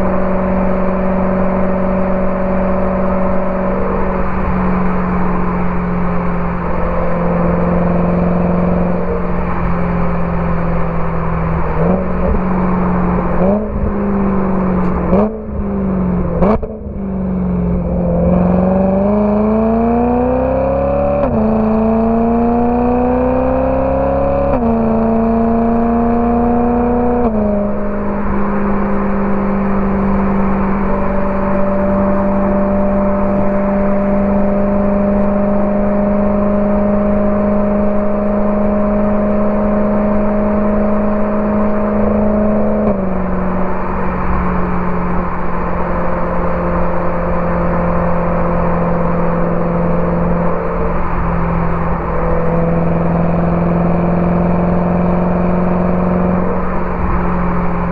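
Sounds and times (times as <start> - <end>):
car engine revving and upshifting: 0.0 - 57.9.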